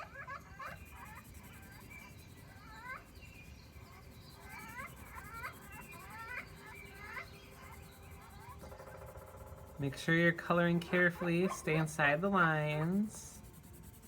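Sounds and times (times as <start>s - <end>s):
bird chirping: 0.3s - 13.7s.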